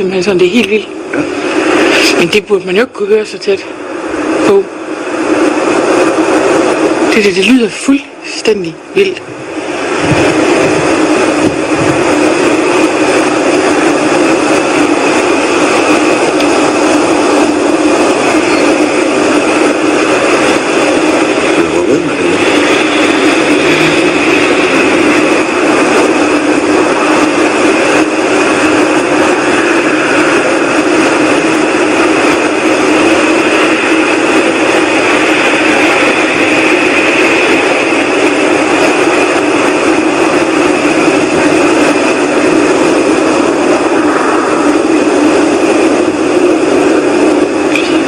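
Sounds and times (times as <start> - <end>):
whooshing drone in the sky: 0.0 - 48.0.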